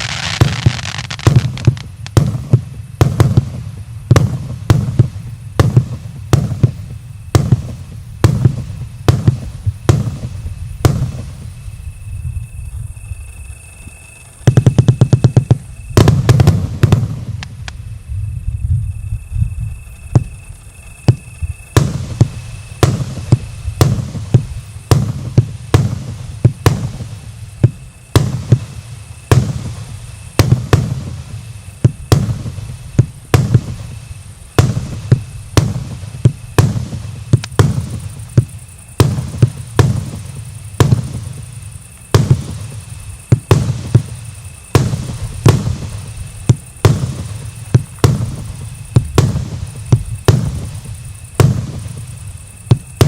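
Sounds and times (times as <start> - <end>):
firework bangs with deep boom: 0.0 - 11.6, 14.4 - 17.7, 21.0 - 53.0.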